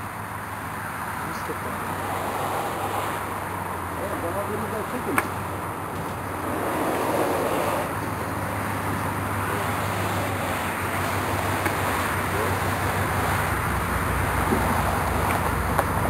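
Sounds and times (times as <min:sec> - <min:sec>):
rushing background noise: 0:00.0 - 0:16.0.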